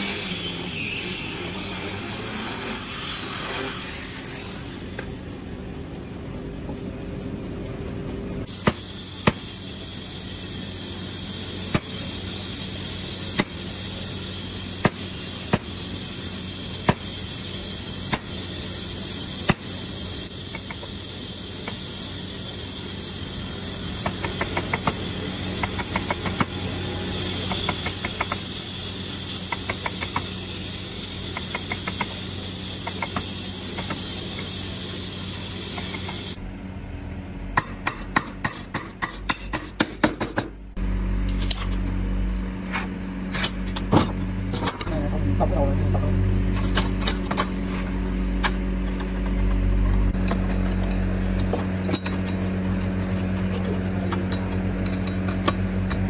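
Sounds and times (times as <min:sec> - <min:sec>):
steady machine hum: 0:00.0 - 0:39.6, 0:40.2 - 0:56.0.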